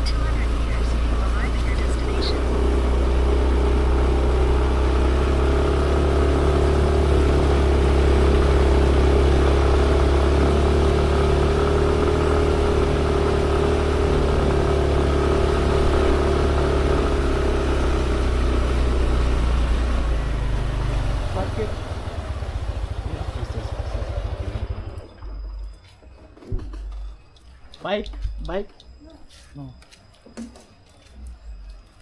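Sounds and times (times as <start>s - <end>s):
motorbike engine rumbling: 0.0s - 29.6s.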